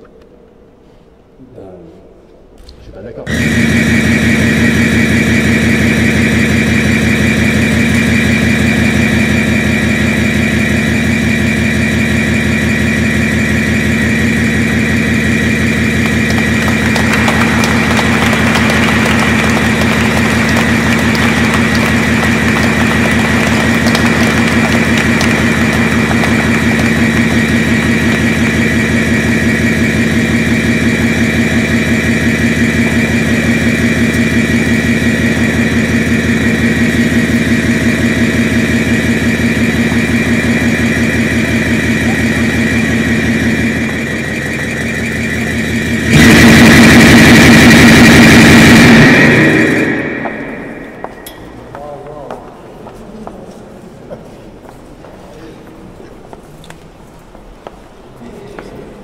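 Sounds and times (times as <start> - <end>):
loud buzzing drone: 3.3 - 51.8.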